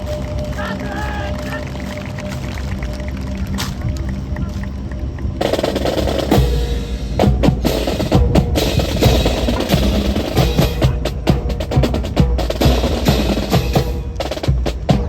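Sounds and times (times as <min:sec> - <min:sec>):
drum rolls: 0:00.0 - 0:15.0.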